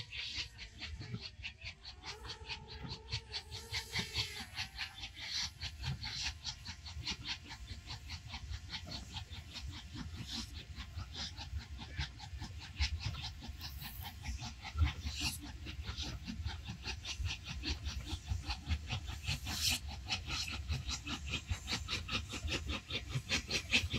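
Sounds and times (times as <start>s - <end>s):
steam locomotive exhaust chuffing: 0.0s - 23.9s.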